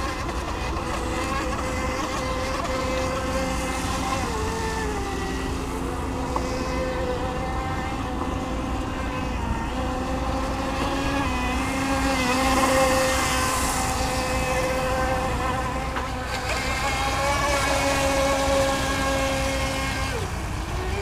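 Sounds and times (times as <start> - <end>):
model speedboat motors buzzing: 0.0 - 21.0.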